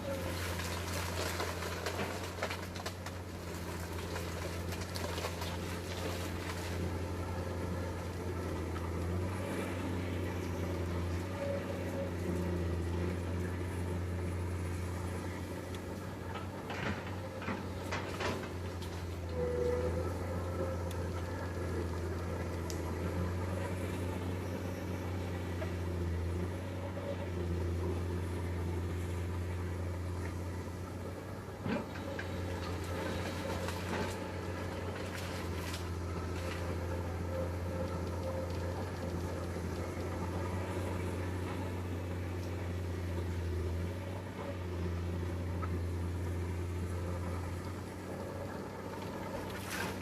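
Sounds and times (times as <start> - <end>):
excavator diesel engine droning: 0.0 - 50.0.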